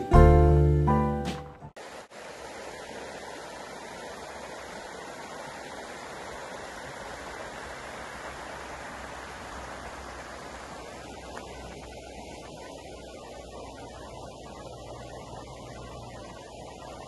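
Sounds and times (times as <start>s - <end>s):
river flowing over rocks: 1.8s - 17.0s.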